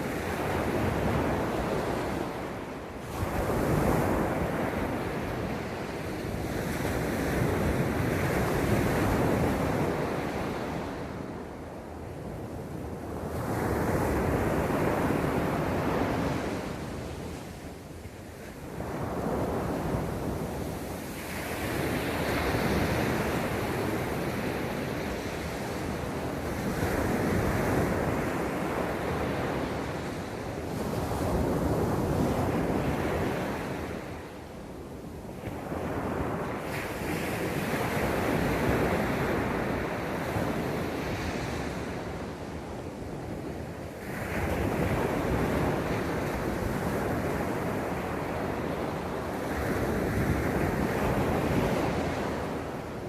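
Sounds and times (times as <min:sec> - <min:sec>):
sea waves breaking on beach: 0:00.0 - 0:11.6, 0:12.5 - 0:53.0.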